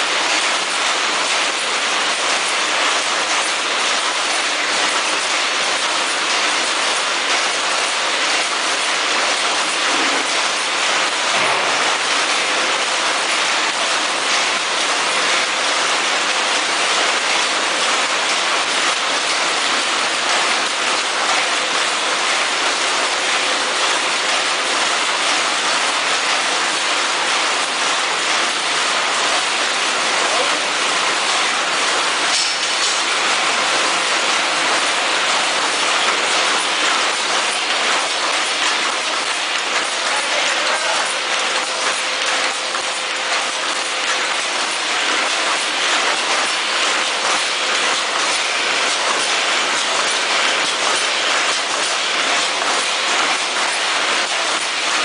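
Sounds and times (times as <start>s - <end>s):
packaging machines clattering: 0.0s - 55.0s.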